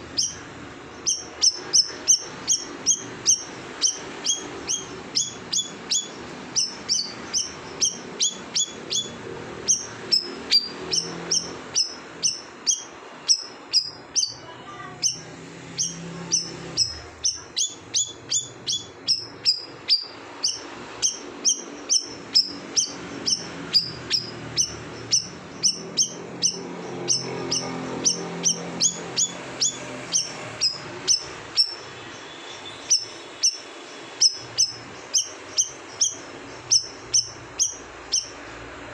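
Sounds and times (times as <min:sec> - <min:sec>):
bird singing sharp notes: 0:01.0 - 0:38.4.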